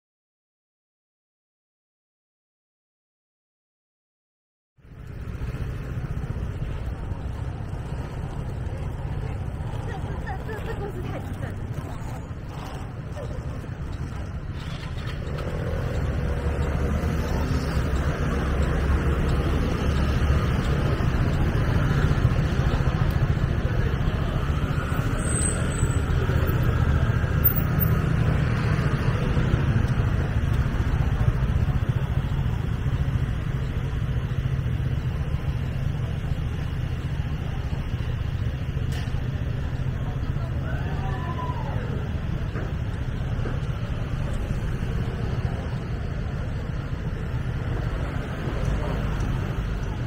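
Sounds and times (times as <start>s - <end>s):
street traffic rumble: 4.8s - 50.0s.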